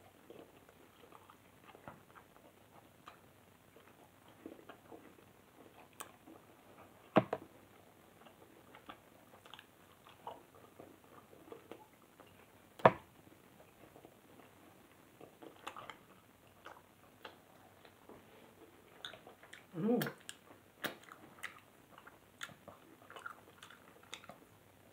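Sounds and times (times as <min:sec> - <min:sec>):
person chewing food: 0:00.1 - 0:12.9, 0:13.6 - 0:24.9.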